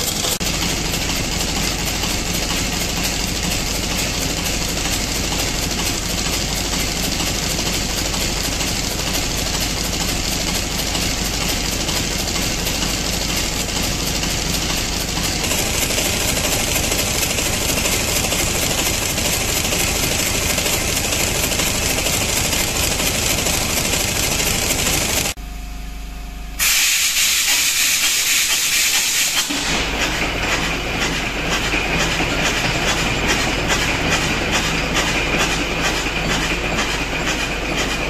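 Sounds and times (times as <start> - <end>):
diesel engine knocking: 0.0 - 25.4, 29.8 - 38.0.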